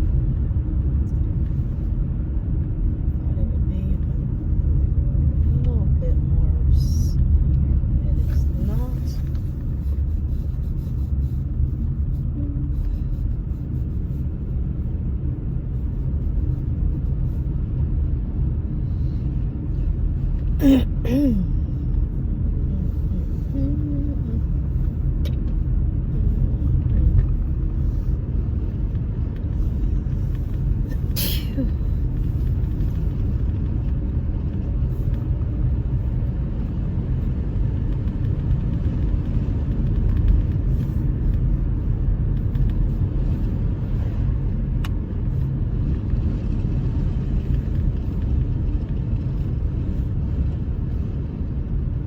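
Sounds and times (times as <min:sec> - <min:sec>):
road and engine rumble inside car: 0:00.0 - 0:52.0.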